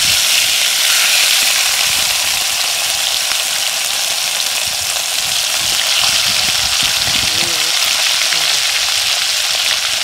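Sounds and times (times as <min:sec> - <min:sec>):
fish deep-frying in hot oil: 0:00.0 - 0:10.0.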